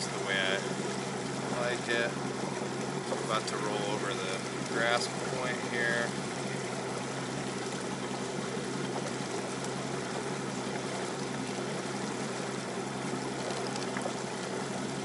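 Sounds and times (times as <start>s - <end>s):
low motor hum: 0.0s - 15.0s
water rushing along boat hull: 0.0s - 15.0s.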